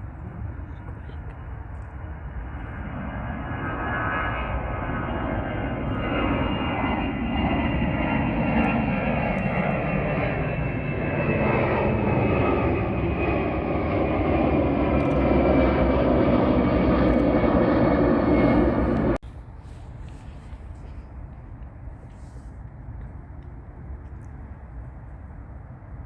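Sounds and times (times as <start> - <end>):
airliner engines running: 0.0 - 26.0.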